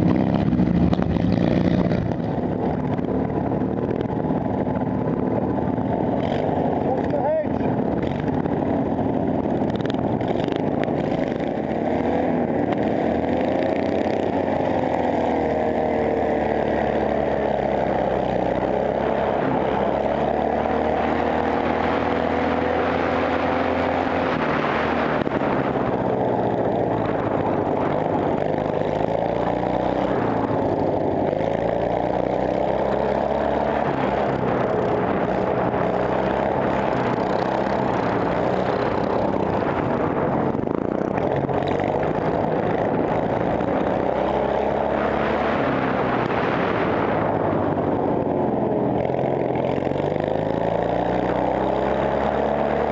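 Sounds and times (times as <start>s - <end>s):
ride-on mower engine running hard: 0.0s - 52.9s.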